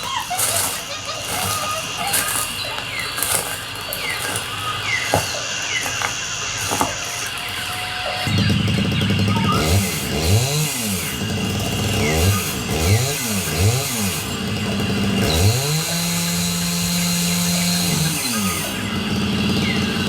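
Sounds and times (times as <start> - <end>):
noisy rumble: 0.7 - 17.7.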